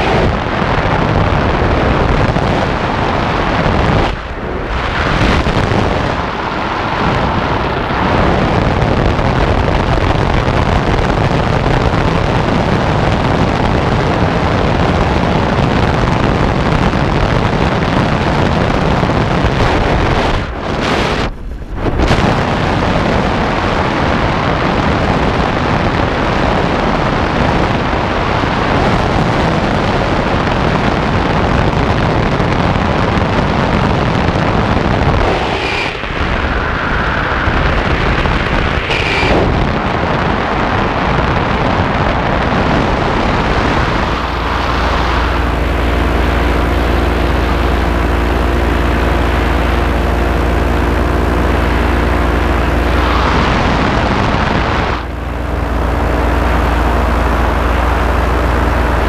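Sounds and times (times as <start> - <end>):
paramotor engine and propeller: 0.0 - 59.0
wind rush on microphone: 0.0 - 59.0.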